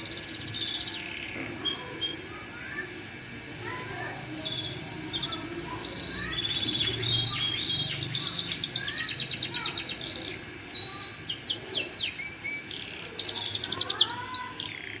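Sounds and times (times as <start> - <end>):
canary singing trills: 0.0 - 2.4, 3.7 - 15.0.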